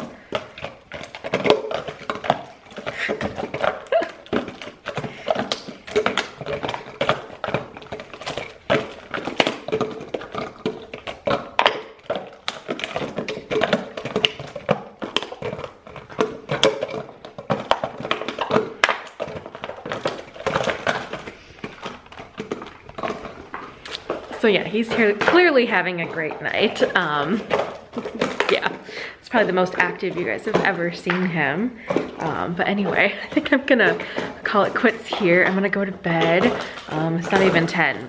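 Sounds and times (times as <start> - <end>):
dog chewing plastic bottle: 0.0 - 38.0.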